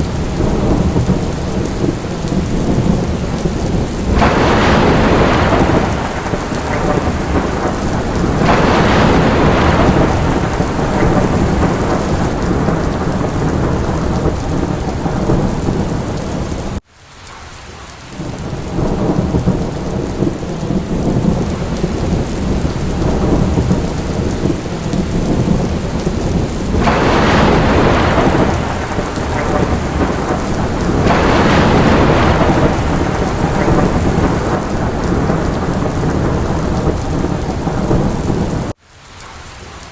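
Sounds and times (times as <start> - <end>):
rolling thunder rumble: 0.0 - 16.8, 18.2 - 38.8
heavy rain: 0.0 - 39.9.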